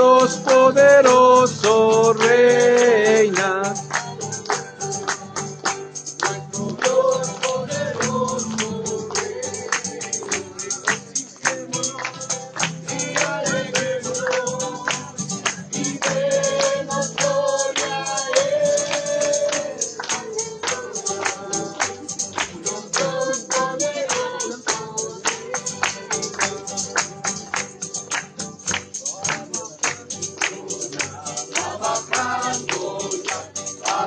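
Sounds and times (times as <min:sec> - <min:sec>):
group singing worship song: 0:00.0 - 0:28.1, 0:29.0 - 0:34.0
tambourine jingling: 0:00.0 - 0:34.0.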